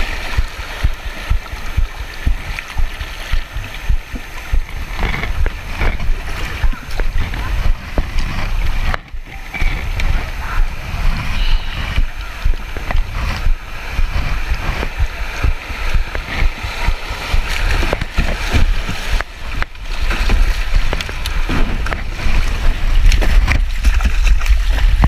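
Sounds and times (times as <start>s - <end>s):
fast water rushing: 0.0s - 25.0s
paddle strokes splashing: 0.0s - 25.0s
wind buffeting microphone: 0.0s - 25.0s.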